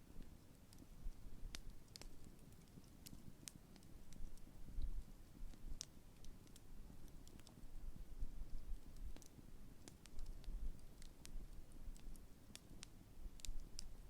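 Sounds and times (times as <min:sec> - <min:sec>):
low rumble of flames: 0:00.1 - 0:14.0
campfire pops and snaps: 0:01.5 - 0:07.6, 0:08.5 - 0:14.0.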